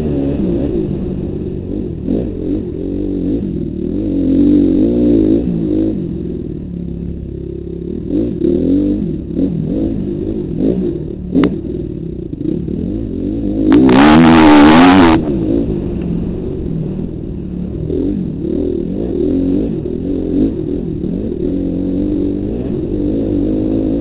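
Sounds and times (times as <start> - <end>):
dirt bike engine revving: 0.0 - 6.6, 7.2 - 24.0.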